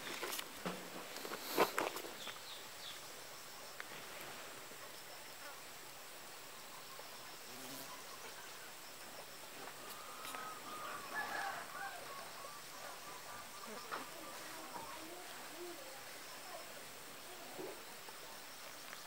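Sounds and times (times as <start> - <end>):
distant bird calls: 0.9 - 3.8, 6.2 - 19.0.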